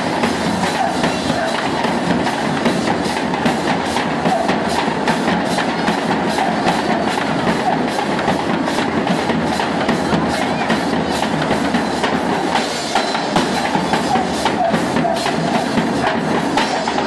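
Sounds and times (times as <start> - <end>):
bass drum and cymbals rhythm: 0.0 - 17.0
crowd murmuring: 0.0 - 17.0.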